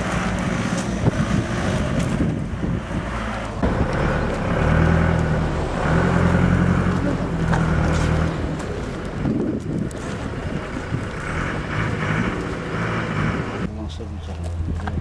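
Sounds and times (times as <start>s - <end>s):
outdoor background noise: 0.0s - 15.0s
vehicle engine running: 0.0s - 15.0s.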